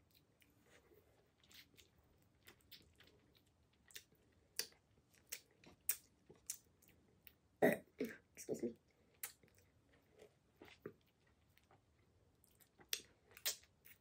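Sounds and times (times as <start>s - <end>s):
chewing with wet mouth noises: 0.0s - 7.5s, 8.8s - 14.0s.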